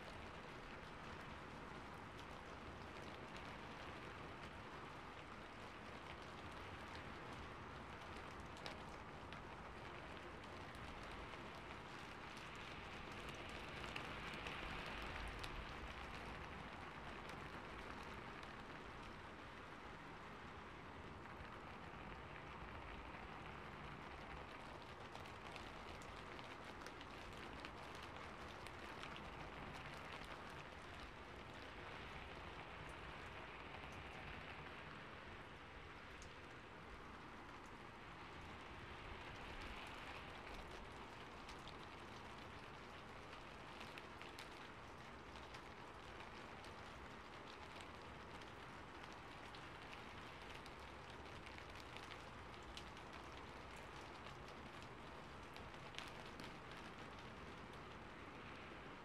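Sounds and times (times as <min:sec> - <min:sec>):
rain drop ticks: 0:00.0 - 0:59.0
steady rain hiss: 0:00.0 - 0:59.0.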